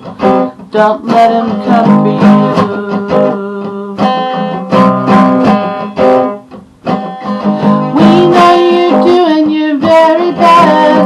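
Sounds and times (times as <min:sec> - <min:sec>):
person singing: 0:00.0 - 0:05.8, 0:07.1 - 0:11.0
acoustic guitar strumming: 0:00.0 - 0:11.0.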